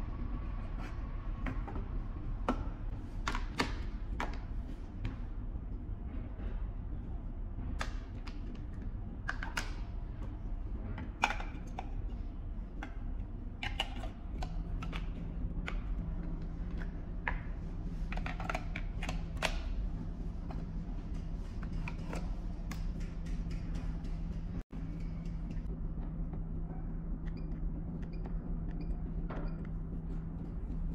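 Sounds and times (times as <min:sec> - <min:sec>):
low hum: 0:00.0 - 0:30.9.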